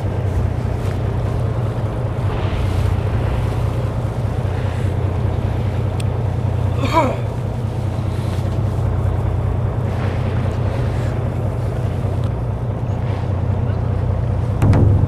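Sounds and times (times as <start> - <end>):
boat engine humming: 0.0 - 15.0
sea noise: 0.0 - 15.0
wind: 0.0 - 15.0.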